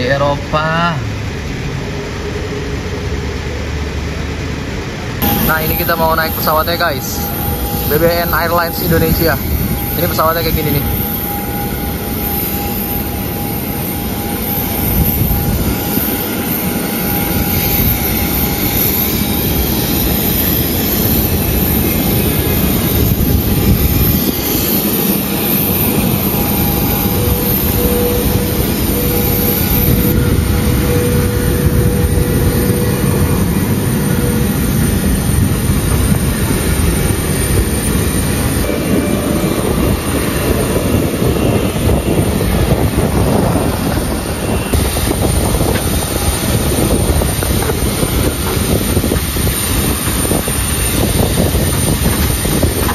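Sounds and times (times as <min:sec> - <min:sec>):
jet turbines roaring: 0:00.0 - 0:52.9
thin whining tone: 0:01.2 - 0:52.9.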